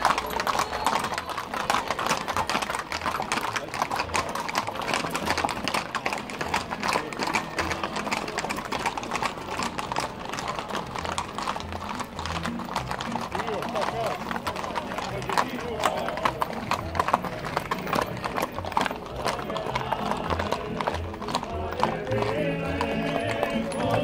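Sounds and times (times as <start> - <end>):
horse hooves clip-clopping on asphalt: 0.0 - 24.0.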